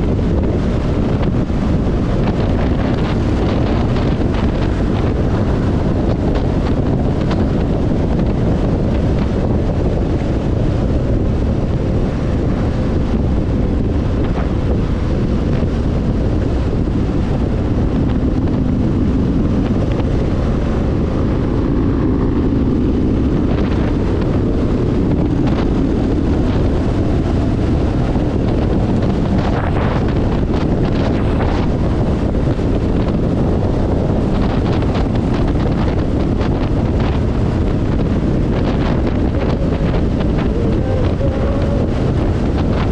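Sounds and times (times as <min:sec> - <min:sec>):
motorcycle rumble: 0:00.0 - 0:42.9
wind buffeting microphone: 0:00.0 - 0:42.9.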